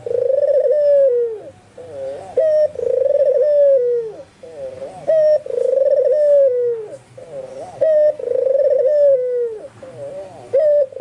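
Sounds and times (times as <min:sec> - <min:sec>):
dove cooing: 0:00.0 - 0:11.0
faint coos of other doves: 0:00.0 - 0:11.0.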